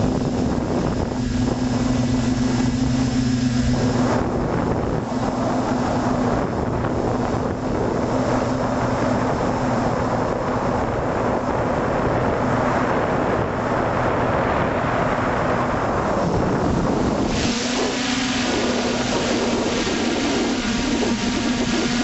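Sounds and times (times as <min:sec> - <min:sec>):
drone motors humming: 0:00.0 - 0:22.0
wind on microphone: 0:00.0 - 0:22.0.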